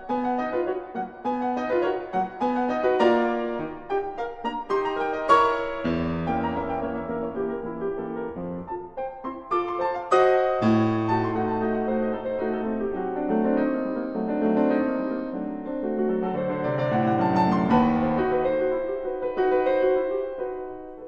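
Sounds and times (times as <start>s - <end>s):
solo piano playing: 0.0s - 21.0s.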